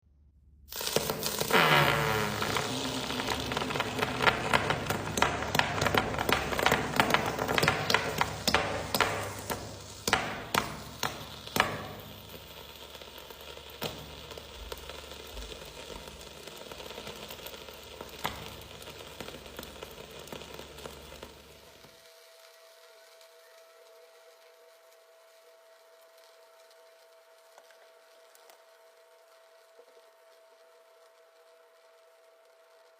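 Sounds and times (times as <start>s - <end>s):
sizzling and crackling pops: 0.7s - 32.9s.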